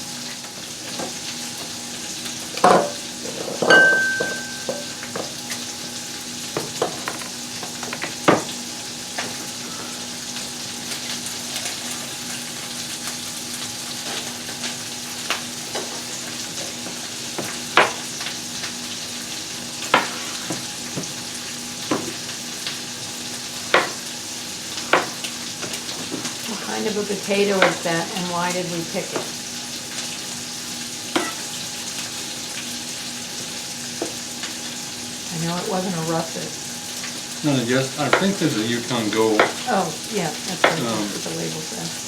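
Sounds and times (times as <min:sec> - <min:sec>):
chicken sizzling in a frying pan: 0:00.0 - 0:42.0.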